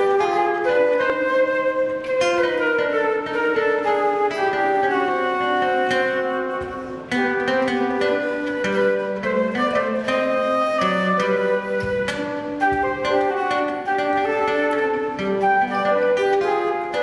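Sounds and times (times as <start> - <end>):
flute playing jazz: 0.0 - 17.0
plucked acoustic guitar: 0.0 - 17.0.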